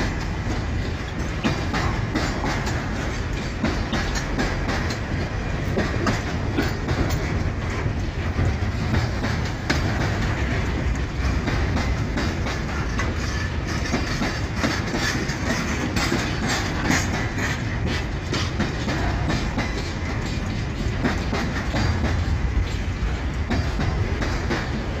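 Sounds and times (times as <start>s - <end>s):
wheel clacks over rail joints: 0.0s - 25.0s.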